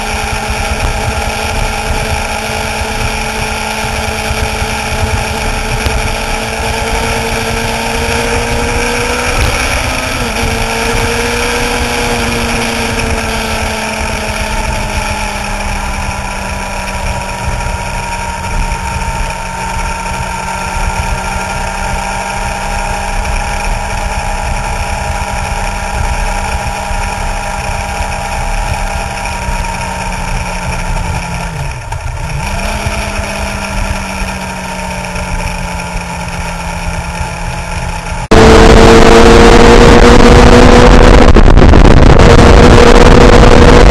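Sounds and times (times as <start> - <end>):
motorcycle engine cruising: 0.0 - 43.9
wind rumble on microphone: 0.0 - 43.9.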